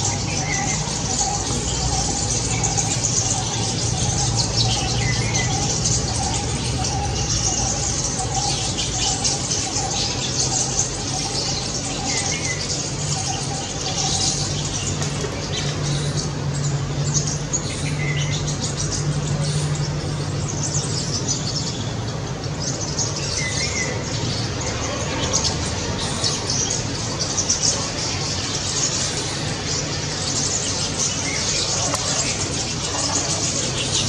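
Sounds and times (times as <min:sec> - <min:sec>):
starlings chattering: 0:00.0 - 0:34.0.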